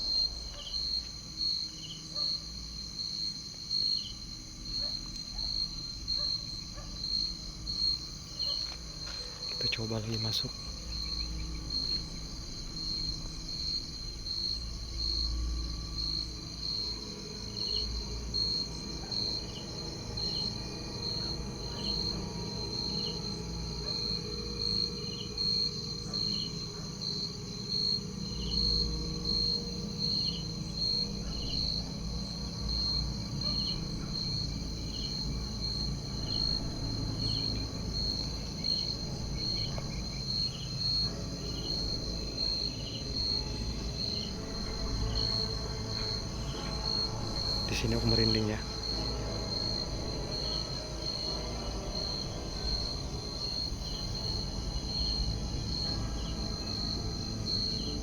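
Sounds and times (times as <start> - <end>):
high pulsing insect trill: 0.0 - 58.0
lower cricket chirp: 0.0 - 58.0.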